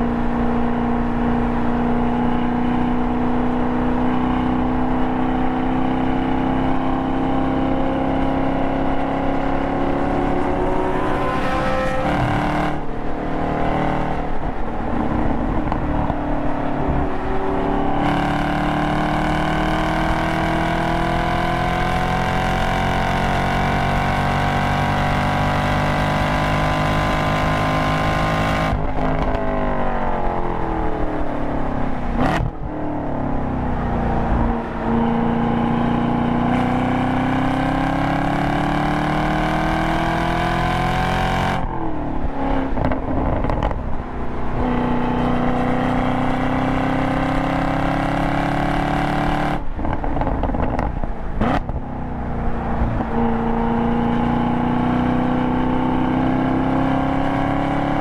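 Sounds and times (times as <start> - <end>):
car engine revving: 0.0 - 30.3, 30.9 - 58.0.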